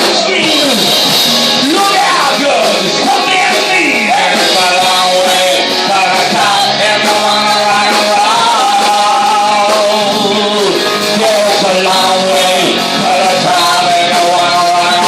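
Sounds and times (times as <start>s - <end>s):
live rock band playing: 0.0s - 15.0s
person singing: 1.6s - 15.0s.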